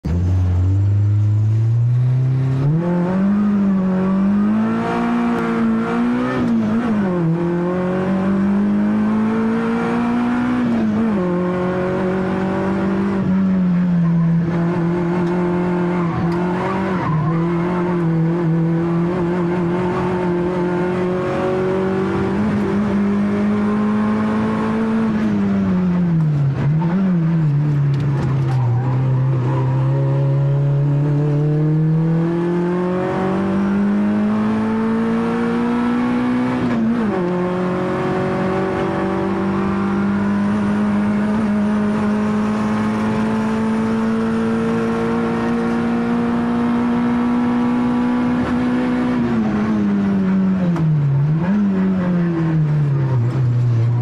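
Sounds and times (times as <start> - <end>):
car engine revving high: 0.1 - 54.0.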